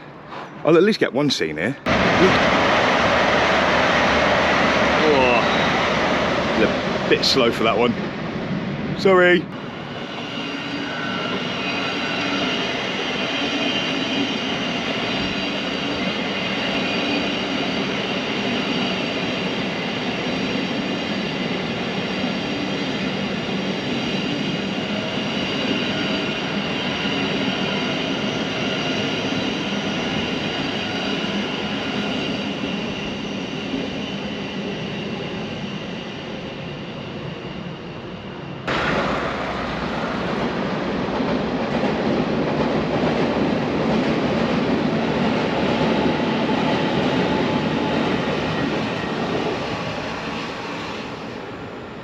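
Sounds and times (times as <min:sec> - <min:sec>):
train rumbling: 0:00.0 - 0:52.0.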